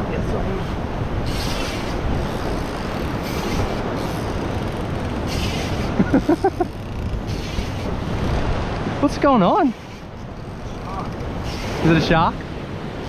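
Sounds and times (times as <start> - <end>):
surf washing against rock: 0.0 - 13.0
wind buffeting microphone: 0.0 - 13.0.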